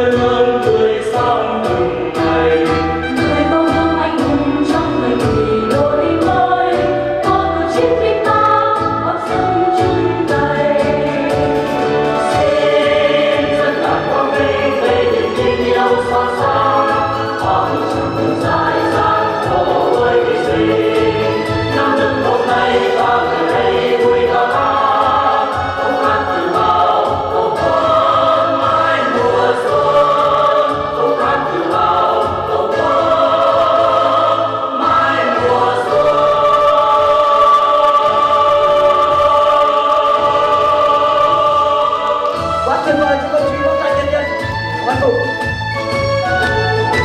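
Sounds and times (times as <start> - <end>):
choral singing over a beat: 0.0 - 43.0.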